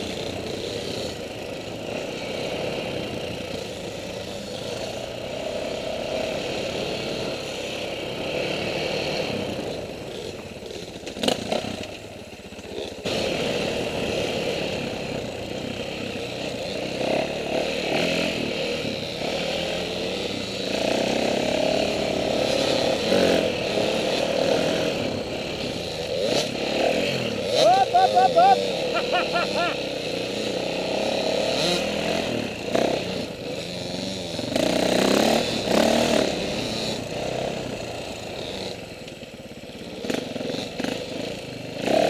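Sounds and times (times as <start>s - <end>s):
dirt bike engine revving: 0.0s - 39.1s, 39.7s - 42.0s.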